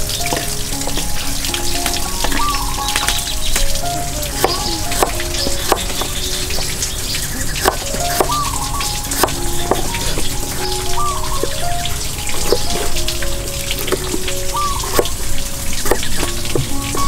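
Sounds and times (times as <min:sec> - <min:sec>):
soft background music: 0:00.0 - 0:17.0
steady crackling hiss: 0:00.0 - 0:17.0.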